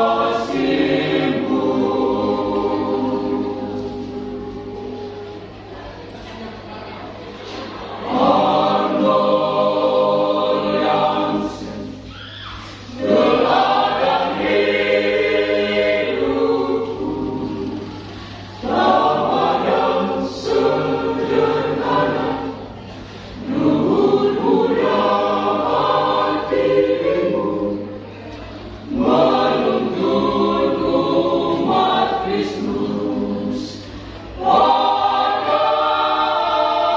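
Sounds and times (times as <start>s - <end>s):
choir singing: 0.0s - 6.0s, 7.1s - 36.9s.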